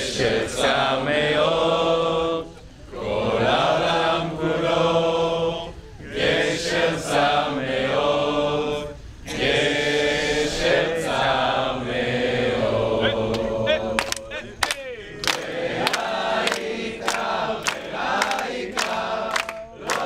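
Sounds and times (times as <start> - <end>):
group of people singing: 0.0 - 20.0.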